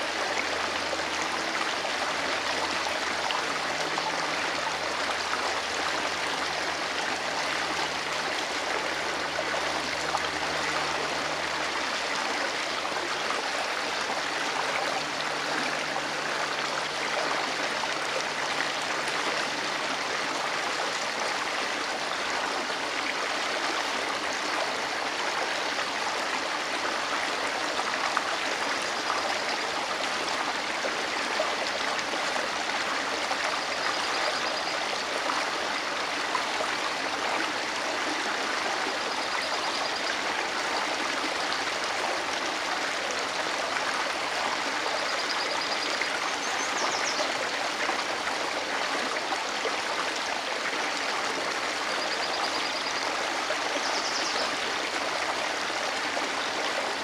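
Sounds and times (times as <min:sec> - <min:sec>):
creek water running over stones: 0:00.0 - 0:57.0.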